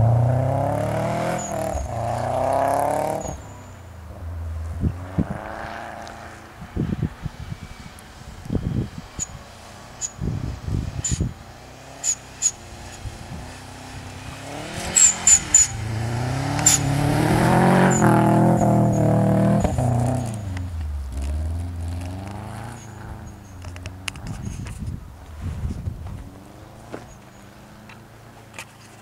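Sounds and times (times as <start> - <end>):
car engine revving: 0.0 - 28.4.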